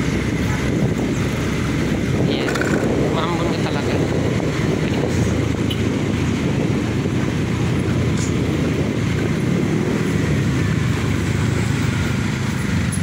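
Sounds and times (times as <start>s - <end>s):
motorcycle engine running: 0.0s - 13.0s
wind rumbling on microphone: 0.0s - 13.0s.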